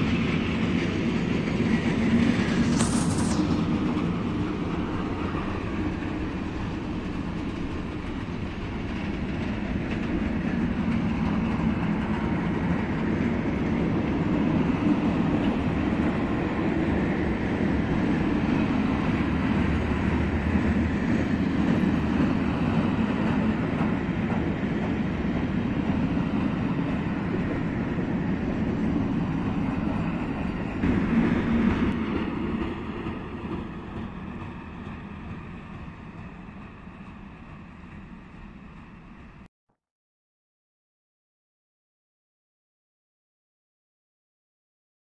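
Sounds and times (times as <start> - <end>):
freight train wheels rumbling on rail: 0.0 - 39.5.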